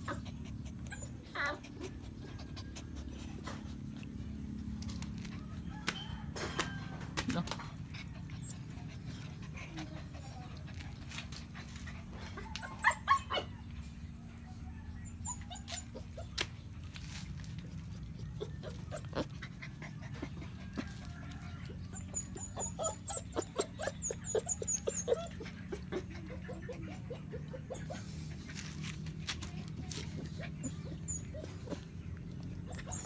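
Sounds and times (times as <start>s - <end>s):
puppies whimpering and yipping: 0.0s - 33.0s.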